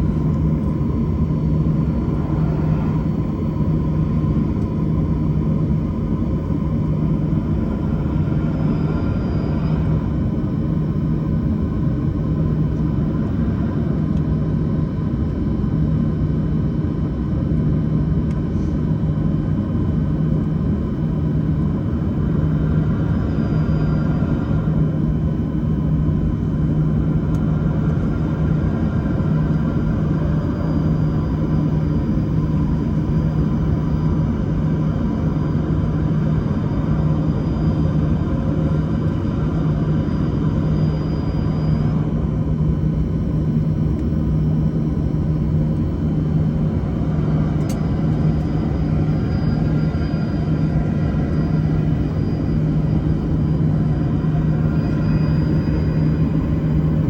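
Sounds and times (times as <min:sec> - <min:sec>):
heavy machinery humming: 0:00.0 - 0:57.0.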